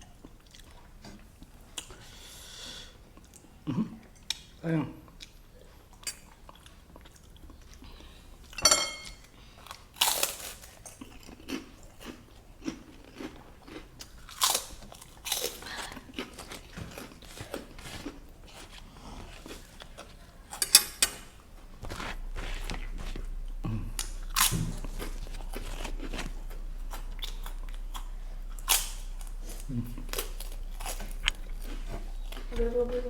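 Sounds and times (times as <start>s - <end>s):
crunching and chewing: 0.0s - 2.0s, 3.0s - 8.6s, 9.2s - 33.0s.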